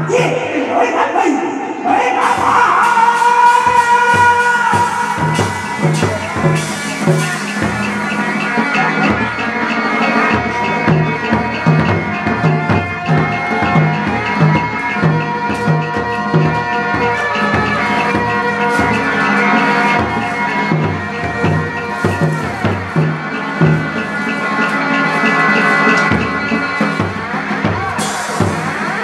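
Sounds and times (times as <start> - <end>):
drum beating steadily: 0.0 - 29.0
reedy wind instrument melody: 0.0 - 29.0.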